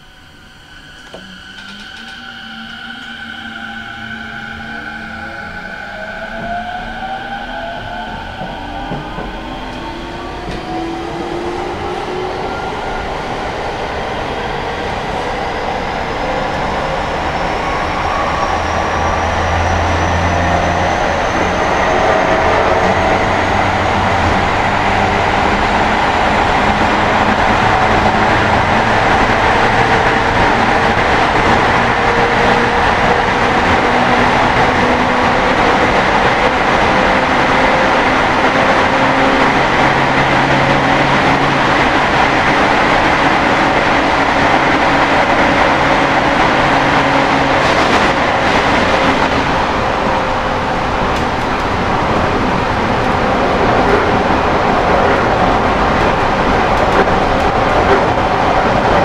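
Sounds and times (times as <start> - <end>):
train wheels on rails: 1.0 - 59.0.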